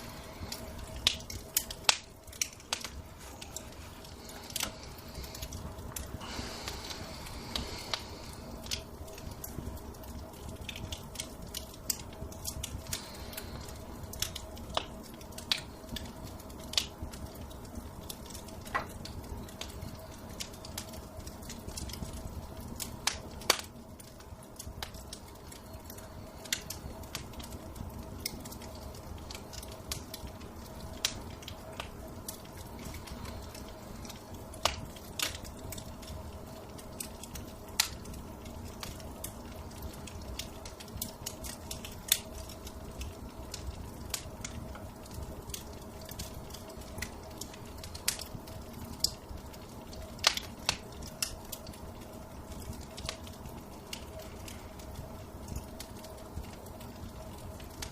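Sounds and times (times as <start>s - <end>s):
faint hum: 0.0s - 57.9s
wood fire crackling: 0.0s - 57.9s.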